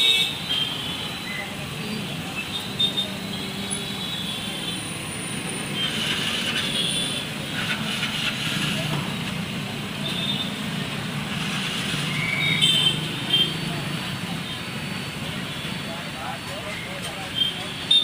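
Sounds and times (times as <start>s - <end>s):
roadside traffic hum: 0.0s - 18.0s.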